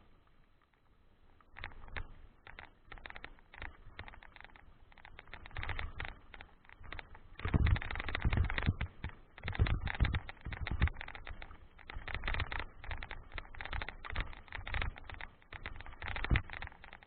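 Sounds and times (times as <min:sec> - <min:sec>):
bike tyres rattling on gravel: 0:01.6 - 0:17.0.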